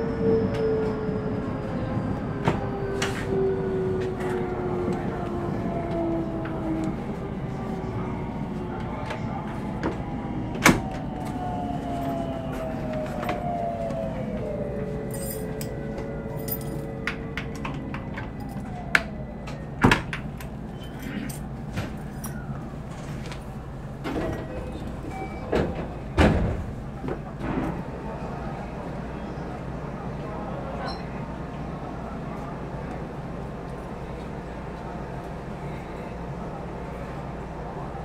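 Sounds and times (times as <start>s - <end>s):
train running rumble: 0.0s - 30.7s.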